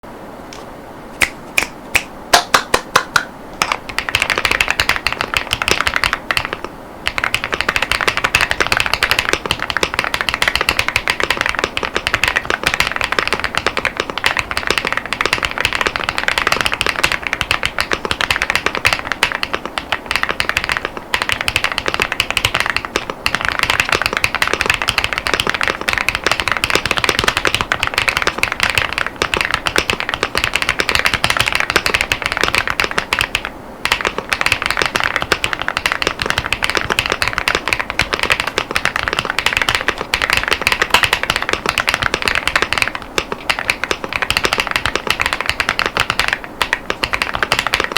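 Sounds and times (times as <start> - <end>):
mechanical keyboard typing: 3.6 - 47.9.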